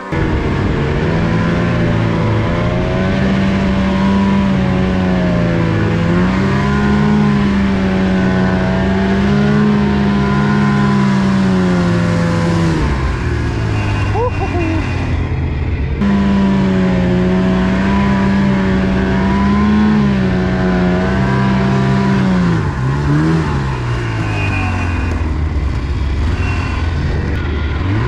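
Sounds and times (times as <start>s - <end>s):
snowmobile engine running: 0.0s - 28.0s.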